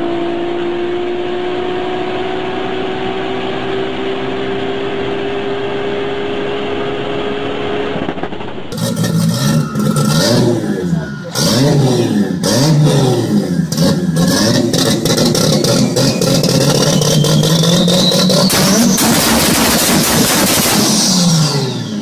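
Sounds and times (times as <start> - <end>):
car engine revving: 0.0 - 22.0
rising whine: 0.0 - 22.0.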